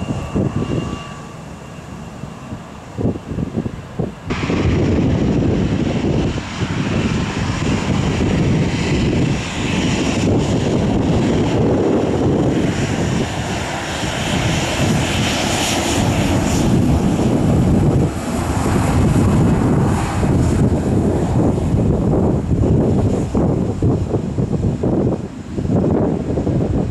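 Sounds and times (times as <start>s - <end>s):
airliner engines rumbling: 0.0s - 26.9s.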